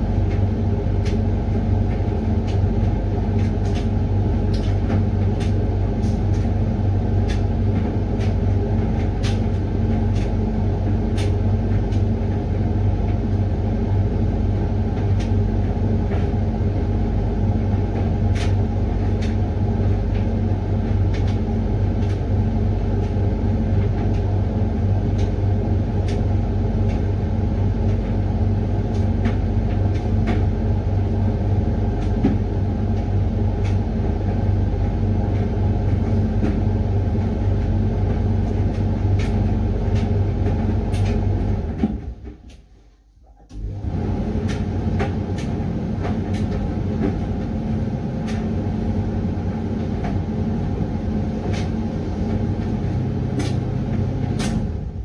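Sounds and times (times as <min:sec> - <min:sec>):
tumble dryer motor hum: 0:00.0 - 0:55.0.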